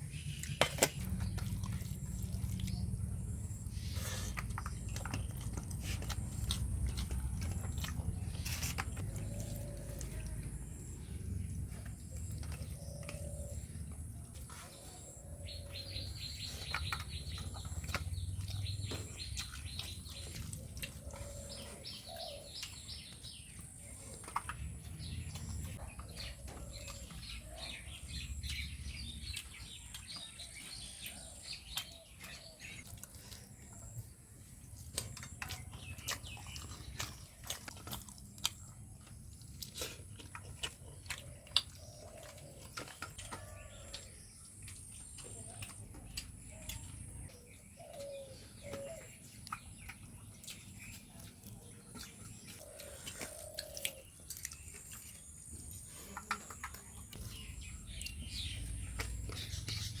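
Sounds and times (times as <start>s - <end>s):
small birds chirping: 0.0s - 60.0s.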